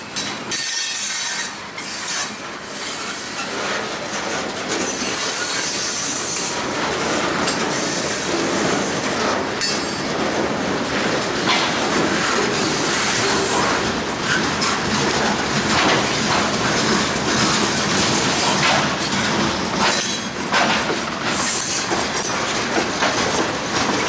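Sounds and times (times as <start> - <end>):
train wheels clattering over rails: 0.0 - 24.0.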